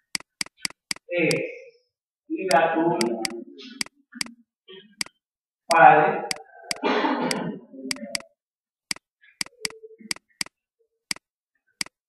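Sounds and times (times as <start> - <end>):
stylus clicking on whiteboard: 0.0 - 1.6, 2.4 - 4.4, 5.0 - 12.0.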